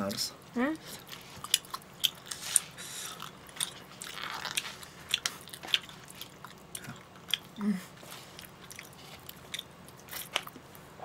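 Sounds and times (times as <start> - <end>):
food being bitten and chewed: 0.8 - 10.8.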